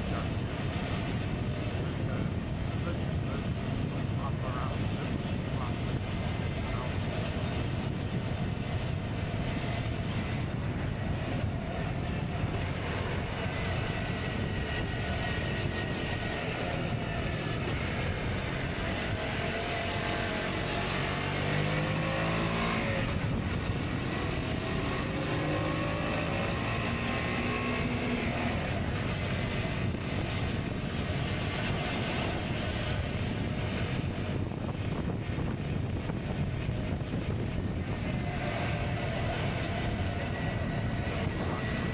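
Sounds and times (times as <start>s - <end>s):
motorcycle engine accelerating: 0.0s - 41.9s
wind rushing: 0.0s - 41.9s.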